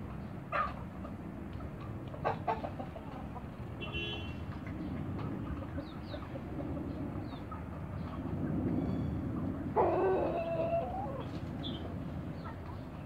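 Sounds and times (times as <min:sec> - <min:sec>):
chickens clucking: 0:00.0 - 0:13.0
low outdoor rumble: 0:00.0 - 0:13.0.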